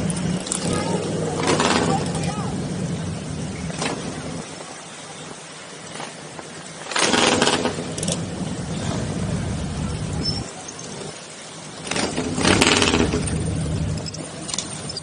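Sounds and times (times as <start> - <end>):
motorcycle engines running: 0.0 - 4.6, 5.8 - 15.0.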